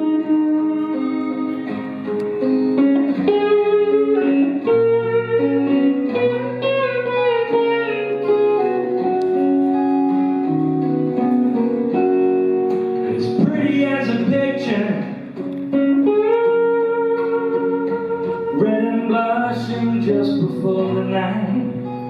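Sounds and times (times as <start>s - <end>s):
blues guitar melody: 0.0s - 22.0s
sustained bass notes: 0.0s - 22.0s.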